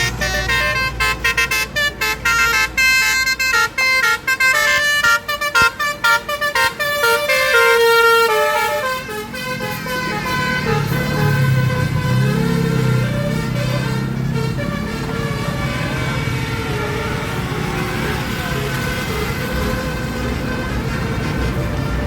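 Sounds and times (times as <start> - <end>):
bus engine running: 0.0 - 22.0
musical air horn: 0.0 - 22.0.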